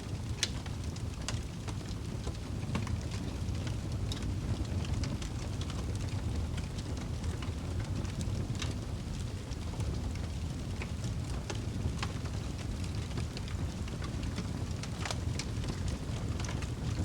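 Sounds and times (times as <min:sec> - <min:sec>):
fire crackling and popping: 0:00.0 - 0:17.0
low rumble of flame: 0:00.0 - 0:17.0.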